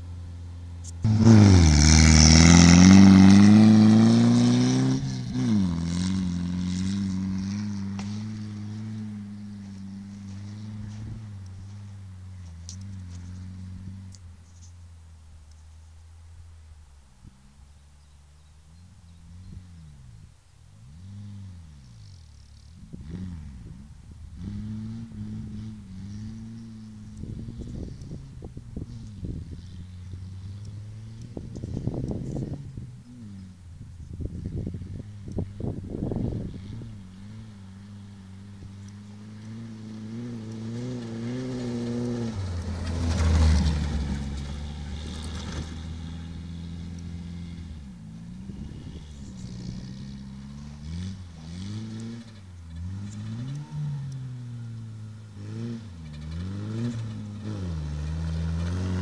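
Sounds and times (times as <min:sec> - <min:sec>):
rally car engine revving: 0:00.0 - 0:14.3, 0:17.5 - 0:59.0.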